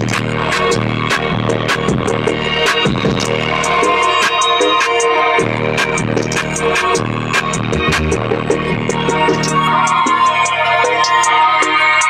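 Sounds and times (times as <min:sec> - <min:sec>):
electronic hip-hop music: 0:00.0 - 0:12.0
heavy subwoofer bass: 0:00.0 - 0:12.0.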